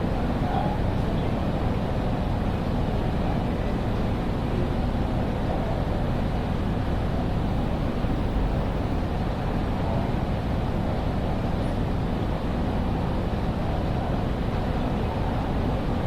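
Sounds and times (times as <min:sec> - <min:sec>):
railway station ambience rumble: 0:00.0 - 0:16.0.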